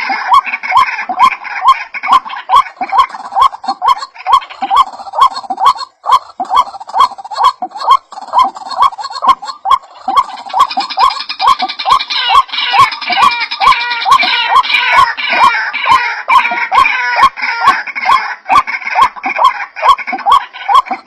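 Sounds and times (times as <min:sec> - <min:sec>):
higher chattering bird call: 0:00.0 - 0:21.0
waterhen croaking call: 0:00.0 - 0:21.0.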